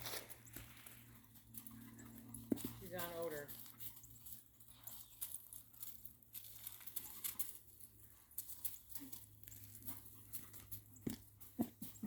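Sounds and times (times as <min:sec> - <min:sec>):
dog rustling and ticking: 0:00.3 - 0:12.0.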